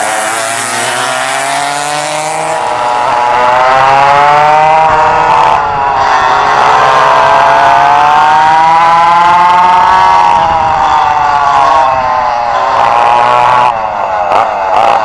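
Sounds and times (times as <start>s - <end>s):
kart engines revving high: 0.0s - 15.0s.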